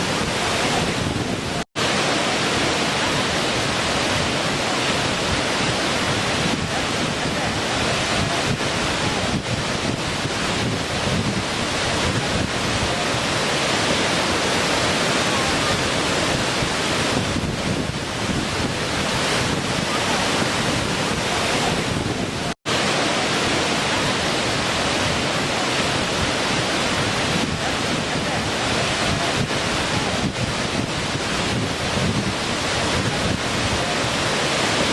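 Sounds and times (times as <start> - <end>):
small waterfall splashing: 0.0 - 34.9.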